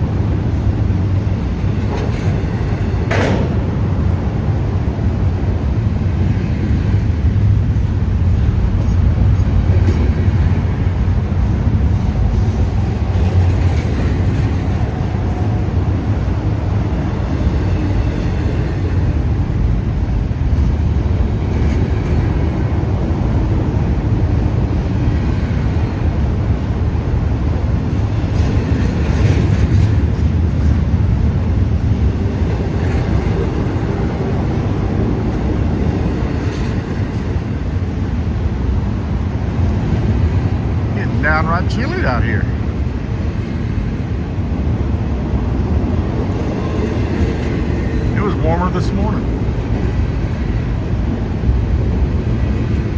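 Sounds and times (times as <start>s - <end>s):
freight train rolling on rails: 0.0s - 52.9s.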